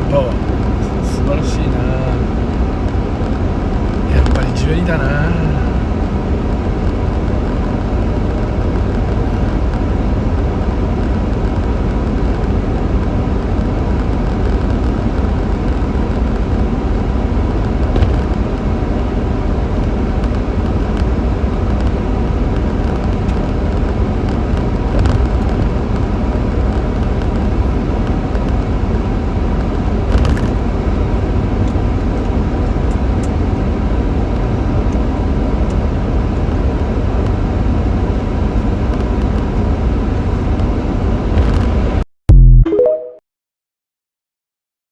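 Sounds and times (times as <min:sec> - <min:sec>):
car engine cruising: 0:00.0 - 0:42.0.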